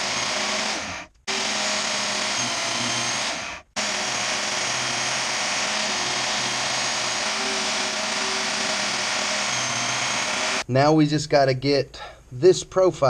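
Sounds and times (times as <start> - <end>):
drill press drilling: 0.0 - 10.6.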